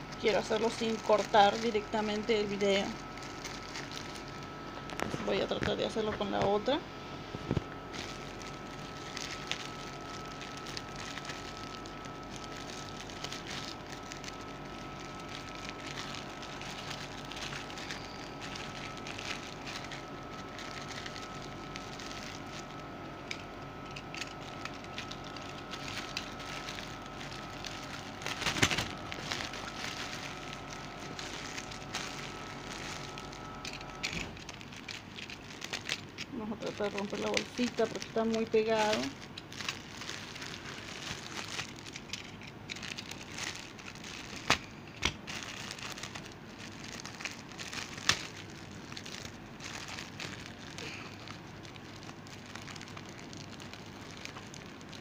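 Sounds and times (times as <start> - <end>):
plastic wrapping crinkling: 0.0 - 55.0.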